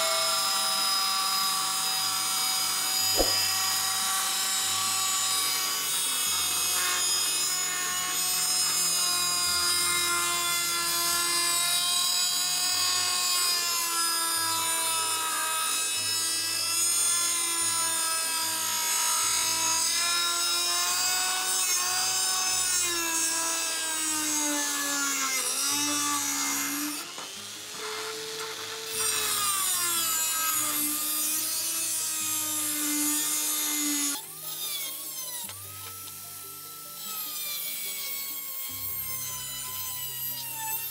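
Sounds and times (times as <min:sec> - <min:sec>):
rotary tool grinding metal: 0:00.0 - 0:40.9.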